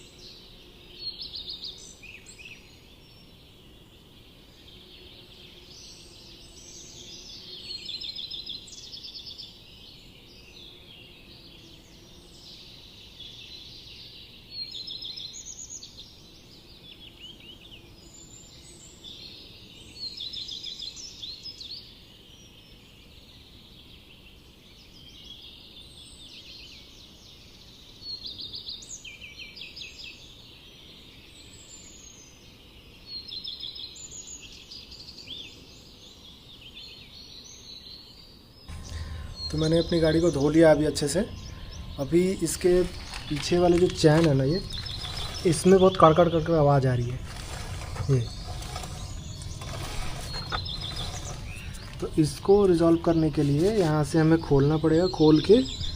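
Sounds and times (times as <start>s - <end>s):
birds chirping and trilling: 0.0s - 55.9s.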